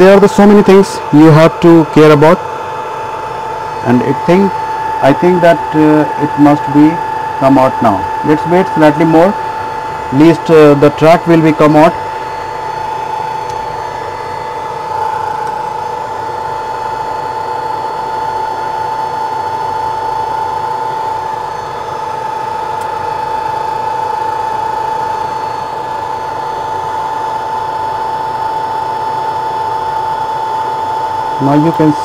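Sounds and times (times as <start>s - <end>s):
constant high whine: 0.0s - 32.0s
fan whirring: 0.0s - 32.0s.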